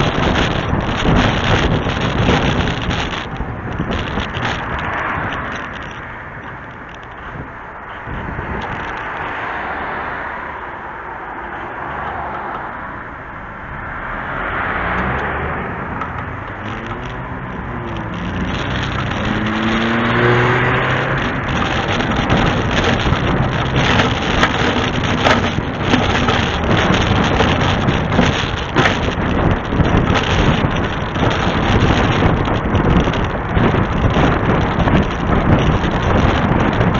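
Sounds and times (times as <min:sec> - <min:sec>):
truck diesel engine pulling: 0:00.0 - 0:09.0, 0:13.9 - 0:36.9
road and wind noise: 0:00.0 - 0:36.9.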